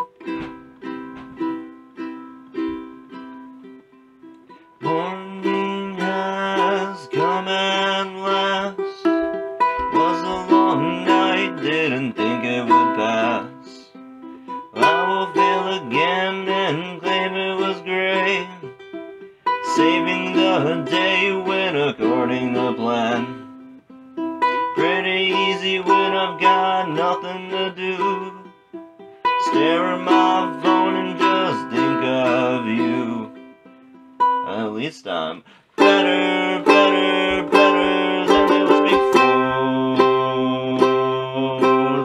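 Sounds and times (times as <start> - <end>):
ukulele playing: 0.0 - 34.8, 35.8 - 42.0.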